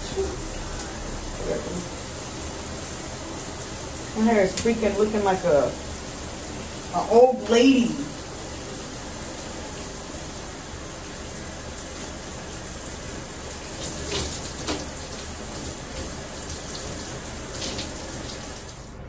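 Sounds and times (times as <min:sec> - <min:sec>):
water running from bathtub tap: 0:00.0 - 0:19.0
water splashing: 0:00.0 - 0:19.0.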